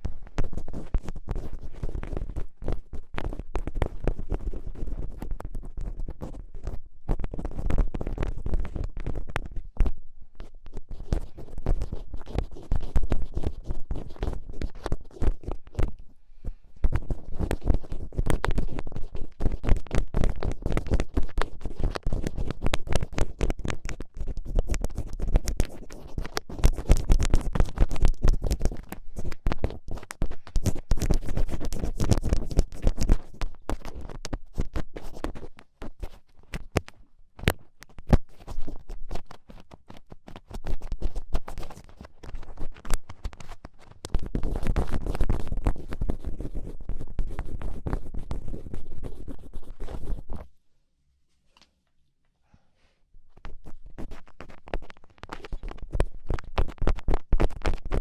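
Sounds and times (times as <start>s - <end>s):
ear picks scratching in an ear: 0.0s - 50.5s, 53.3s - 58.0s.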